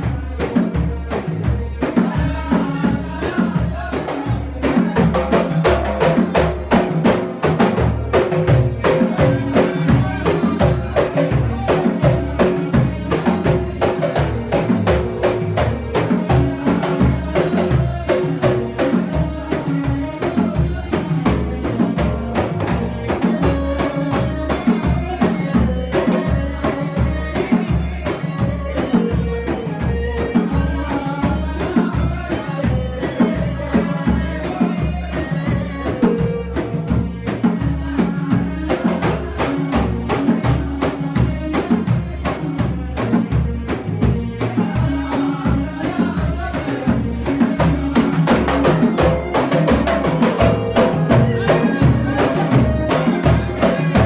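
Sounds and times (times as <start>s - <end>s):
frame drums beating: 0.0s - 54.0s
men singing in unison: 0.0s - 54.0s.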